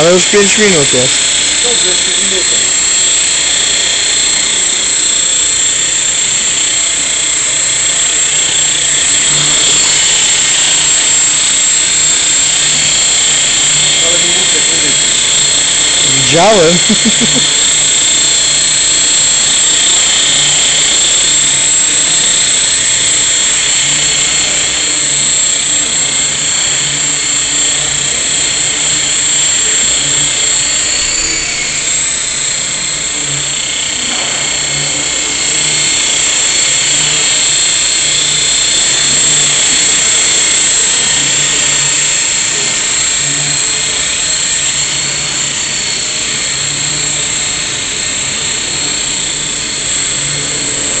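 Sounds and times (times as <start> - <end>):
rc helicopter whine: 0.0 - 51.0.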